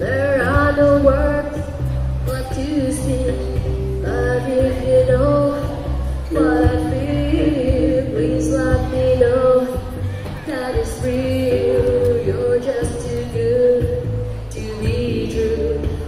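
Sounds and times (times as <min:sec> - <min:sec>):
instrumental accompaniment with bass: 0:00.0 - 0:16.0
woman singing pop song: 0:00.0 - 0:16.0.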